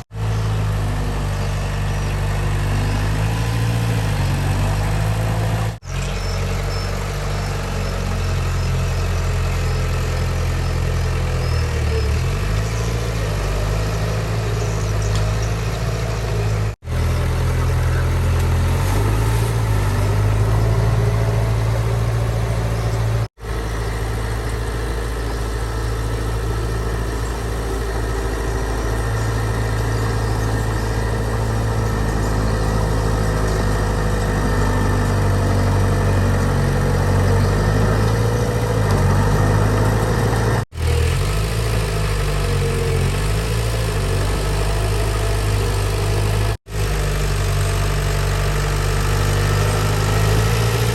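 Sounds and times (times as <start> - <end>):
heavy diesel engine droning: 0.0 - 50.9.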